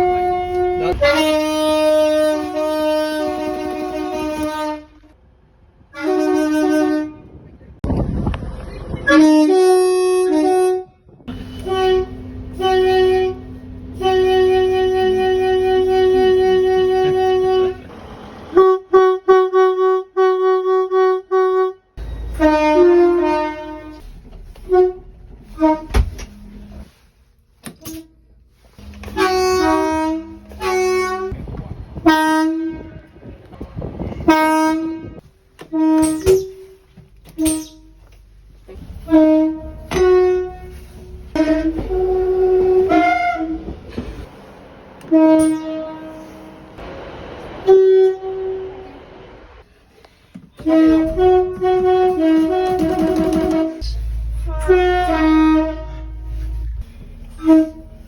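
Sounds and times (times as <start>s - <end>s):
train air horn chord: 0.0s - 5.2s, 5.9s - 7.4s, 9.1s - 17.9s, 18.5s - 25.9s, 27.9s - 31.4s, 32.0s - 33.4s, 34.0s - 36.8s, 38.8s - 58.0s.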